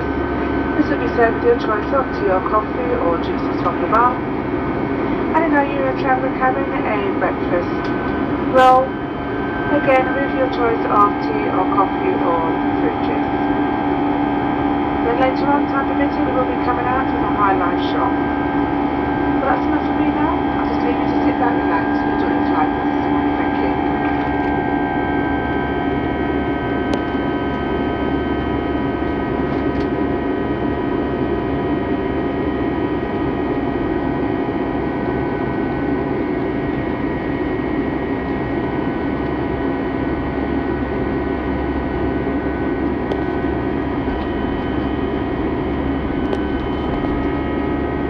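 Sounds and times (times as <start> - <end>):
aircraft cabin engine drone: 0.0 - 48.0
steady whining tones: 0.0 - 48.0.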